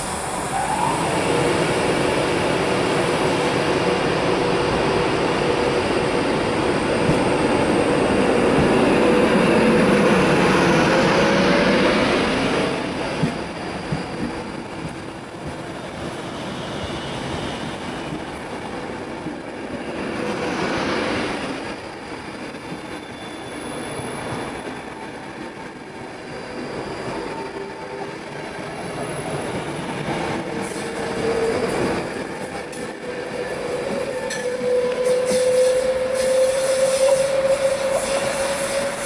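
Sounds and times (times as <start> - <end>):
rising train whine: 0.0 - 39.0.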